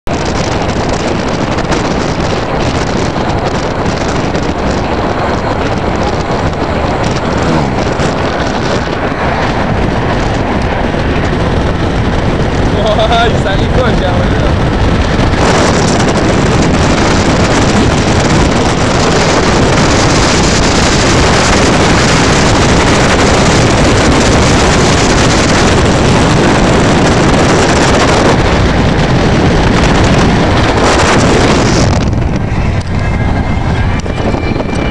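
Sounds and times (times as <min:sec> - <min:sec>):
road noise: 0:00.0 - 0:34.9
wind roaring over microphone: 0:00.0 - 0:34.9.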